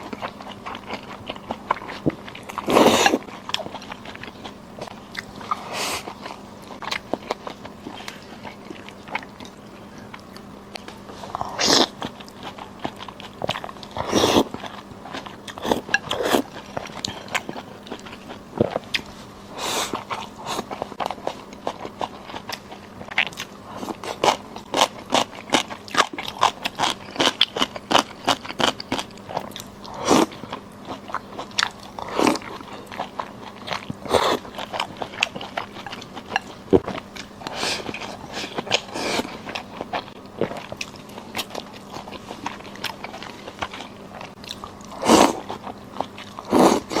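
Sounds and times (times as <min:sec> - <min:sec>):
person chewing and crunching food: 0:00.0 - 0:47.0.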